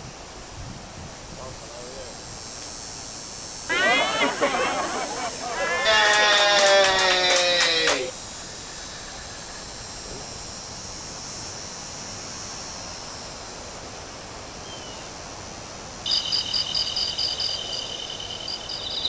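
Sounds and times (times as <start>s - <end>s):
insect chorus hissing: 0.0s - 19.0s
rapidly pulsing insect chirping: 0.0s - 19.0s.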